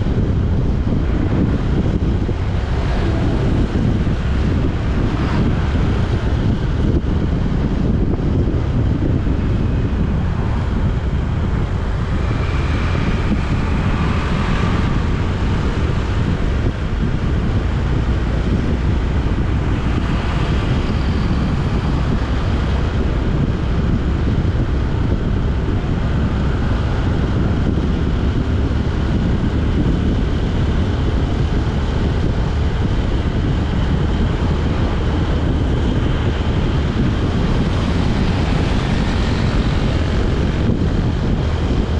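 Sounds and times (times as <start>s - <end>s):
vehicle road rumble: 0.0s - 41.9s
wind buffeting microphone: 0.0s - 41.9s.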